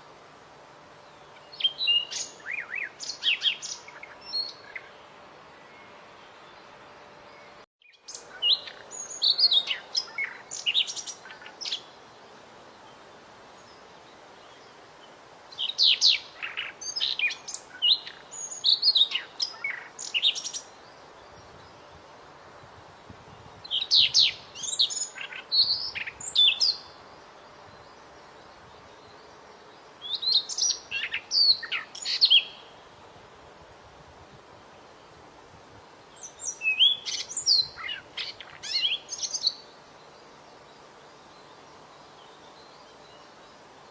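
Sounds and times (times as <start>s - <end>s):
songbird chirping and twittering: 0.0s - 33.3s, 34.2s - 43.9s
faint steady hiss: 0.0s - 43.9s.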